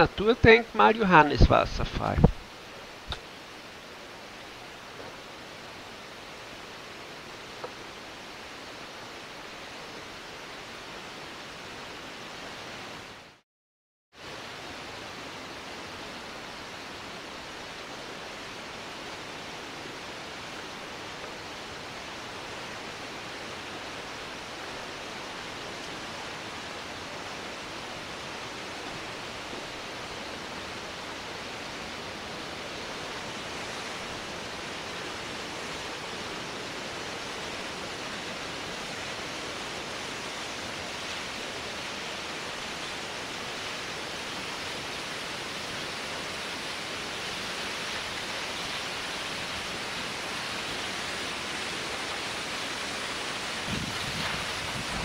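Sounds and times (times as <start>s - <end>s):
waterfall rushing: 0.0s - 13.4s, 14.2s - 55.0s.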